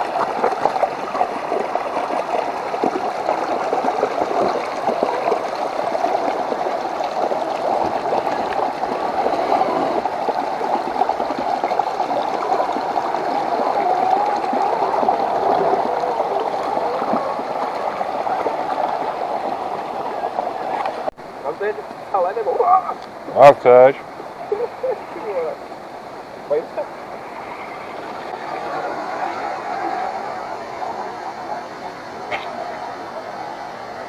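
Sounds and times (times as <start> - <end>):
water gurgling and churning: 0.0 - 34.0.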